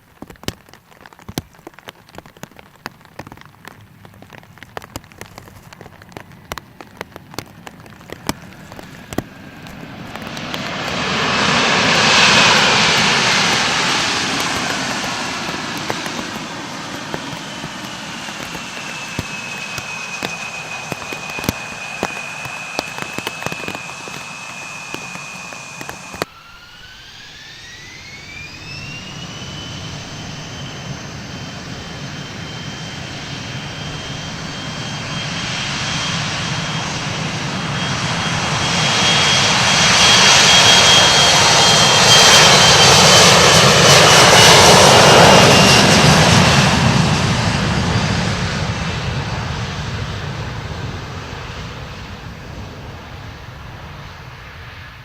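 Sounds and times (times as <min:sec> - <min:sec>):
jet engines spooling up and roaring: 0:02.2 - 0:55.0
steady engine whine: 0:03.1 - 0:55.0.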